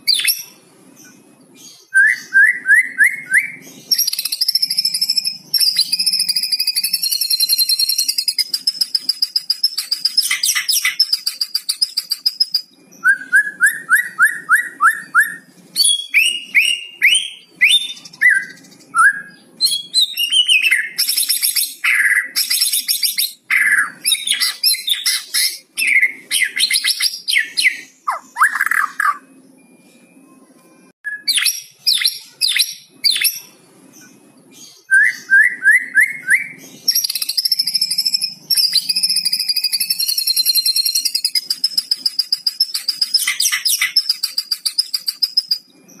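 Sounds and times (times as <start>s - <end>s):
bird calling and singing: 0.0s - 30.2s, 31.1s - 46.0s.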